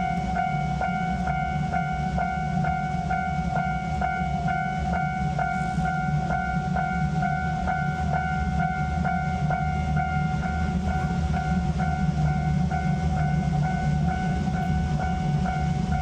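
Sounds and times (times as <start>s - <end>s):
train passing rumble: 0.0s - 16.0s.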